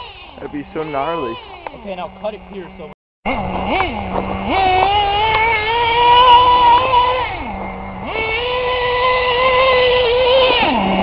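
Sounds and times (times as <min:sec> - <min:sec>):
nitro engine revving: 0:00.0 - 0:11.0.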